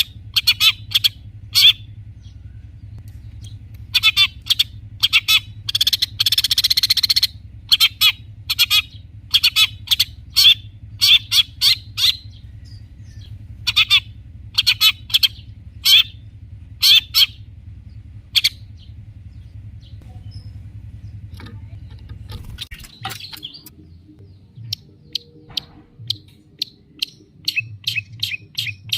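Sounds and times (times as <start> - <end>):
bird rapid chattering run: 0.0 - 28.9
bird singing harsh notes: 0.0 - 28.9.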